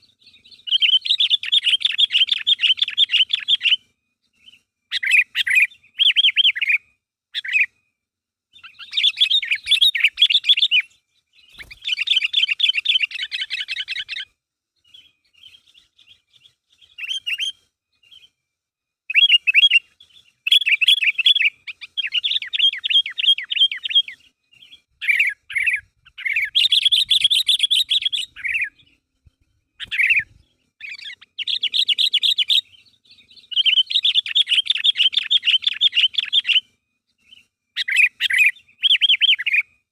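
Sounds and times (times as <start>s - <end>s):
bird chattering song: 0.0s - 7.8s, 8.5s - 18.4s, 19.1s - 29.1s, 29.8s - 39.9s.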